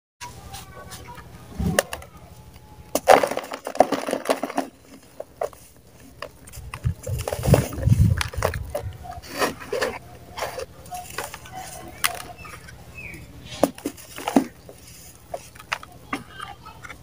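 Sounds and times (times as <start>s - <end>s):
dry mud crackling and crumbling: 0.5s - 17.0s.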